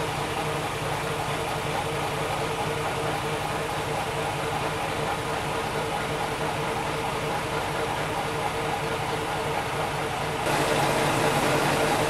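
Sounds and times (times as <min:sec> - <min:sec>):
diesel railcar engine idling: 0:00.0 - 0:12.0.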